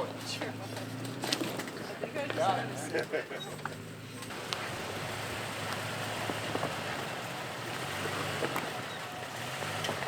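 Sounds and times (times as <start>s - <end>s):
truck engine at low revs: 0.0s - 10.0s.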